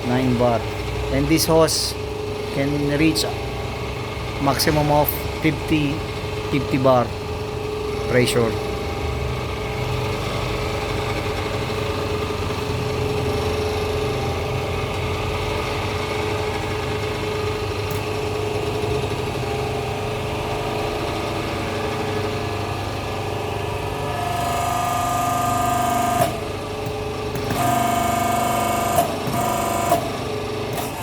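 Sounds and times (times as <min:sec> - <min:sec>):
pump motor humming: 0:00.0 - 0:31.0.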